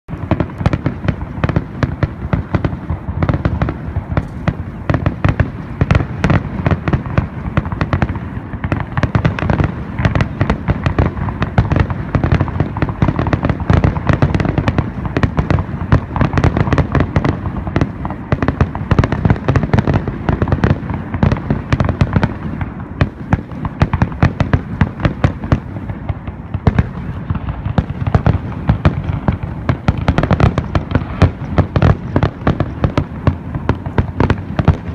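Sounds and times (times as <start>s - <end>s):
fireworks banging: 0.1s - 34.9s.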